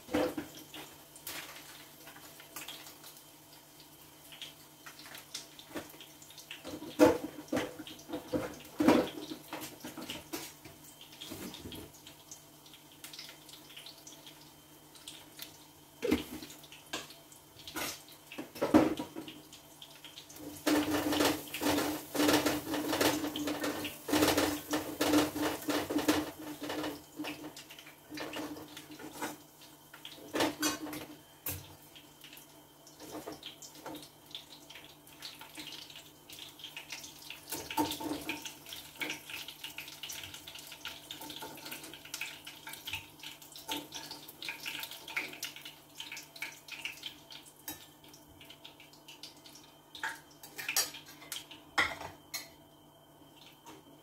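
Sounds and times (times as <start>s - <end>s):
oil sizzling in a frying pan: 0.0s - 54.0s.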